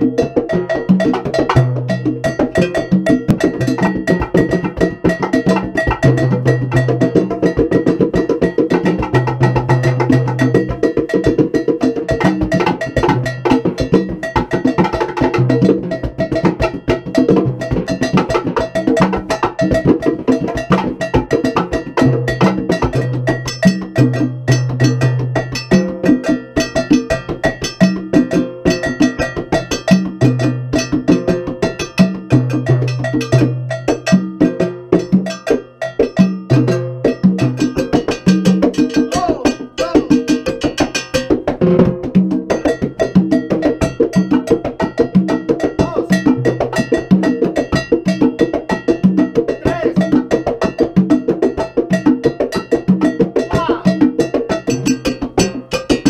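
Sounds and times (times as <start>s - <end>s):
congas: 0.0s - 56.0s
cowbell struck with sticks: 0.0s - 56.0s.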